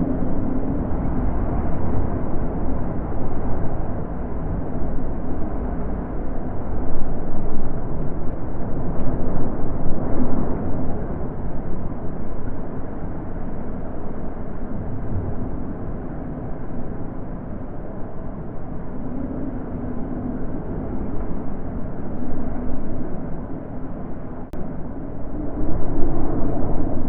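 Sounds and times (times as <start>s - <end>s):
wind blowing: 0.0s - 27.0s.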